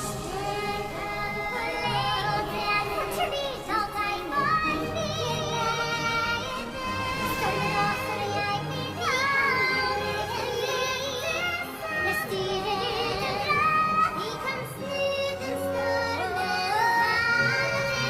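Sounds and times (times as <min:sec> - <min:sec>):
backing music: 0:00.0 - 0:18.0
women singing with voice effect: 0:00.0 - 0:18.0.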